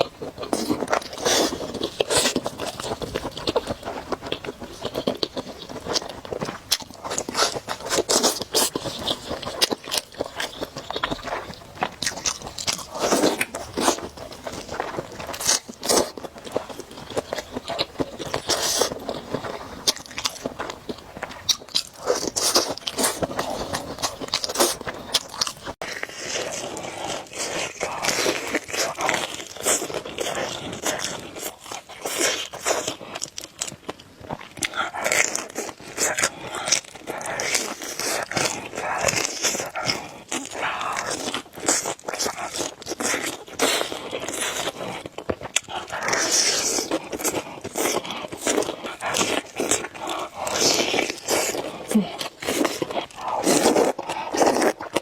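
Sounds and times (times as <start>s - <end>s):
person chewing noodles: 0.0s - 55.0s.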